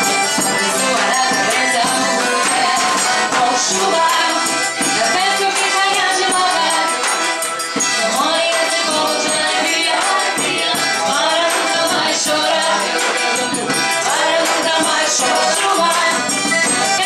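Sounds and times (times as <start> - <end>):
accordion: 0.0 - 17.0
acoustic guitar: 0.0 - 17.0
woman singing: 0.6 - 7.4, 8.0 - 17.0.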